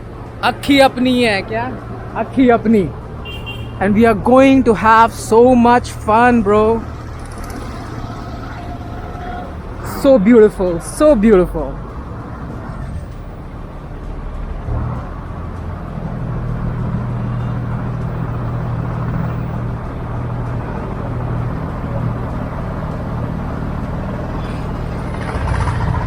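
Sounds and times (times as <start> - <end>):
motor boat engine humming: 0.0 - 26.0.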